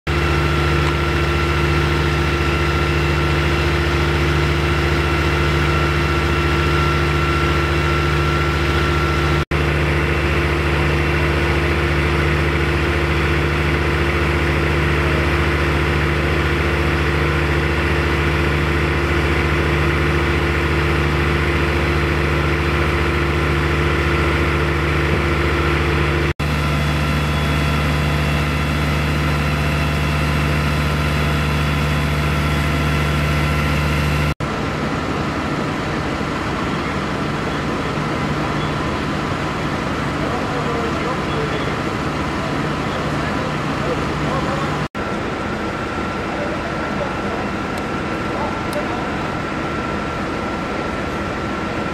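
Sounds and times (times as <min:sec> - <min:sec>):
diesel engines idling: 0:00.1 - 0:51.9.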